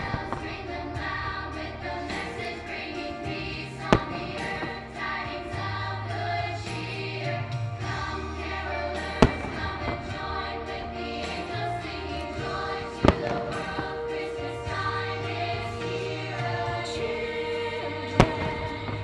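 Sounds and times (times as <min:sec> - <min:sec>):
choral music: 0:00.0 - 0:19.0
sustained low notes: 0:00.0 - 0:19.0.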